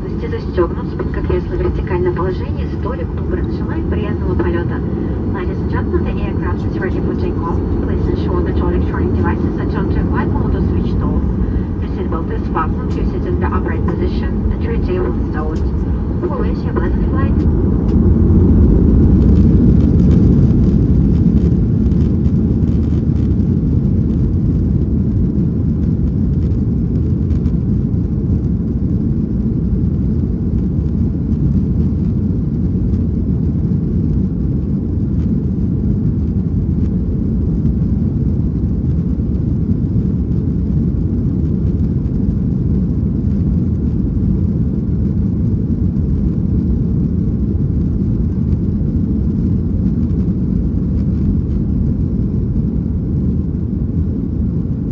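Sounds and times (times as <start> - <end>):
jet engines rumbling in cabin: 0.0 - 54.9.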